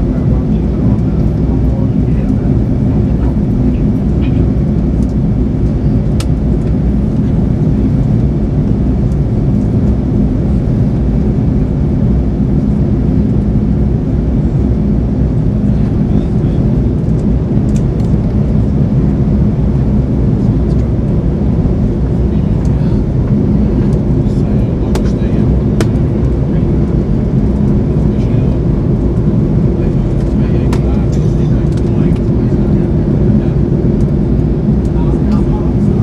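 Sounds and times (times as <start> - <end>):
airplane cabin engine drone: 0.0 - 36.0.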